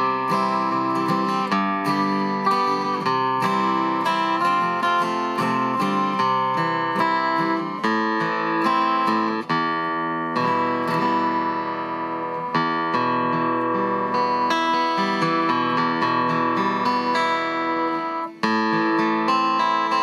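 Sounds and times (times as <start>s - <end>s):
fingerstyle acoustic guitar: 0.0s - 20.0s.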